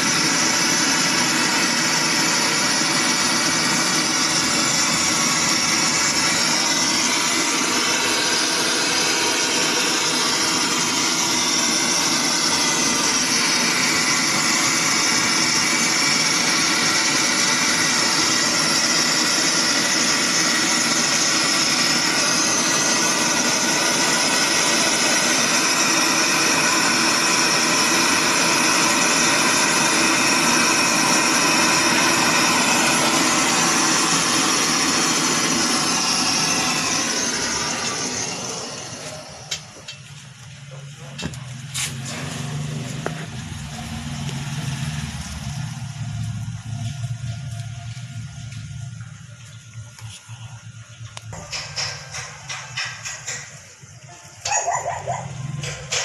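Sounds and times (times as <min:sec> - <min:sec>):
torch flame hissing: 0:00.0 - 0:40.0, 0:41.2 - 0:48.2.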